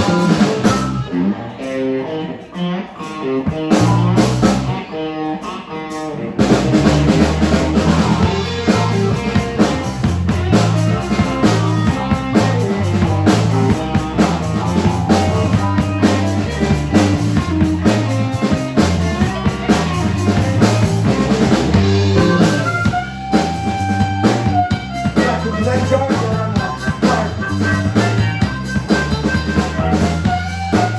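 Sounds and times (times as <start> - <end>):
electric guitar: 0.0 - 30.9
rock band playing: 0.0 - 30.9.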